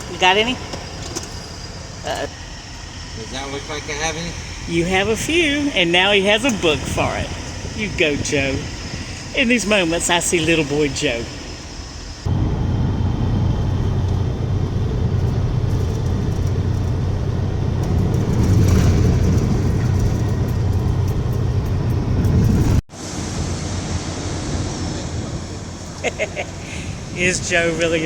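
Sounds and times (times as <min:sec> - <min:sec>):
road and cab noise: 0:00.0 - 0:28.0
truck engine low rumble: 0:00.0 - 0:28.0.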